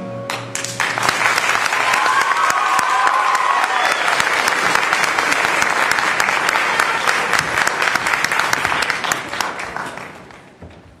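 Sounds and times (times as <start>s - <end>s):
audience applauding: 0.3s - 10.6s.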